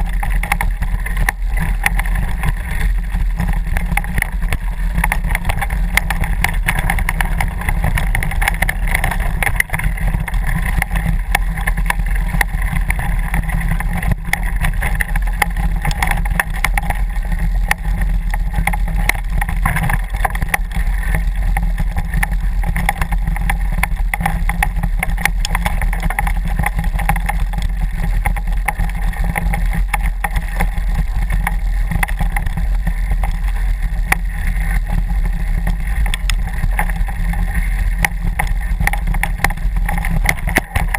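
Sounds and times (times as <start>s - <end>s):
bike knocks and rattles: 0.0s - 40.9s
bike tyre noise on dirt: 0.0s - 40.9s.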